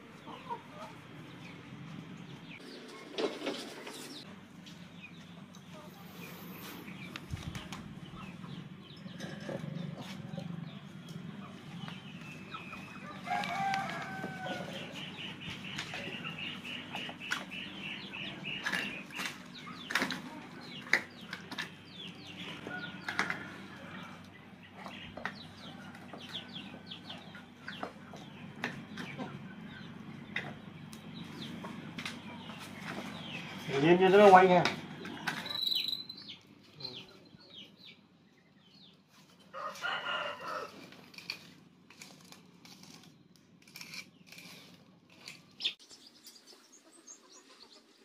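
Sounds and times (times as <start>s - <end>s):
chickens clucking: 0.0s - 41.0s, 45.6s - 48.0s.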